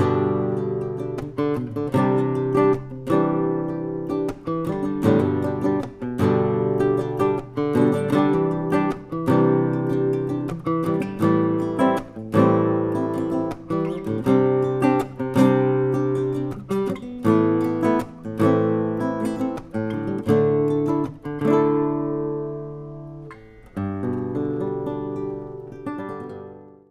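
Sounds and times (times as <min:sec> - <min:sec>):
strummed acoustic guitar chords: 0:00.0 - 0:26.8.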